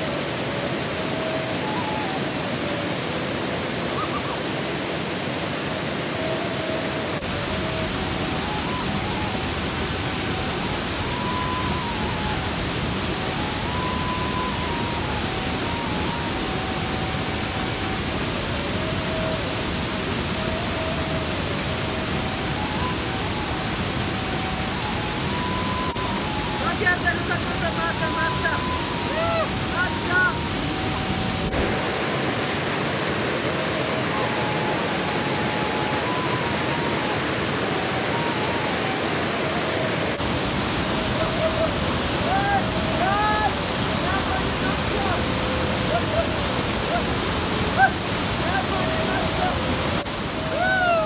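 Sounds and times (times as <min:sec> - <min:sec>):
waterfall and stream rushing: 0:00.0 - 0:51.0.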